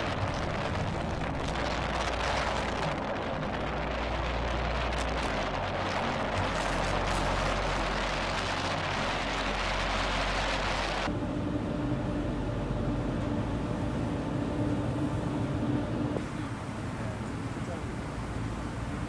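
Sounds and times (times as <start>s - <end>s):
ship rumble with steady hum: 0.0s - 19.0s
wind and sea rushing: 0.0s - 19.0s.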